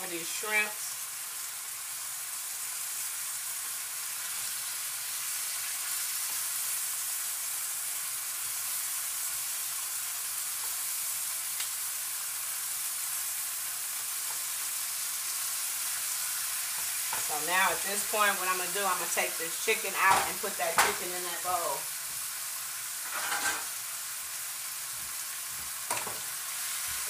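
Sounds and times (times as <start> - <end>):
food sizzling in frying pan: 0.0 - 27.0.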